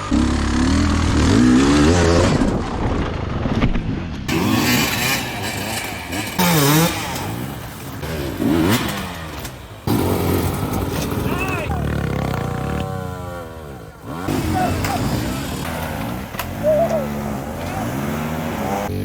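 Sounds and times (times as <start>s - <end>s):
dirt bike engines revving: 0.0s - 3.1s, 4.3s - 19.0s.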